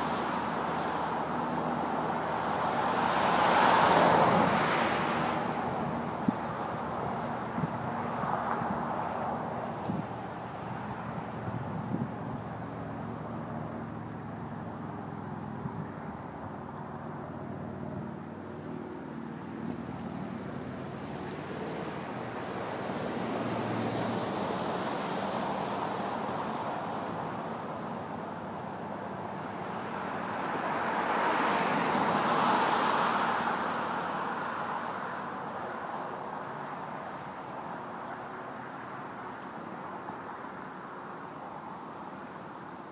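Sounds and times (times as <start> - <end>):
vehicles passing on road: 0.0 - 42.9.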